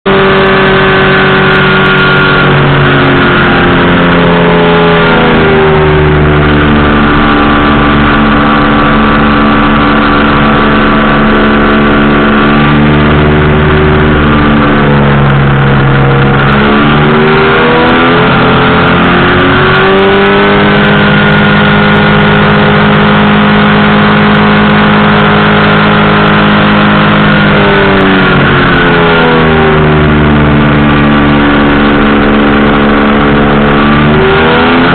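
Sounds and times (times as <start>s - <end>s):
engine and propeller running: 0.0s - 34.9s.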